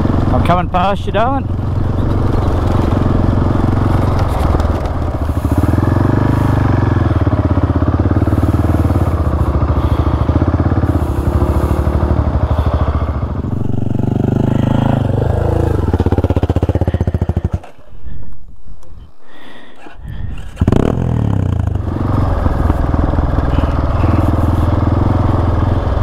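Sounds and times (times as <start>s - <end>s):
motorcycle engine running: 0.0s - 18.3s, 19.6s - 26.0s.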